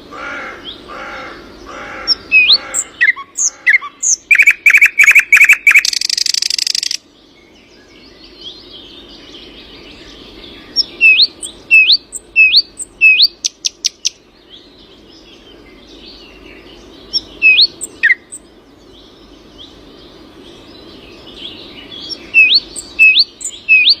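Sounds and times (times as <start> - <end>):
soft bird chorus: 0.0 - 24.0
songbirds chirping and trilling: 0.0 - 24.0.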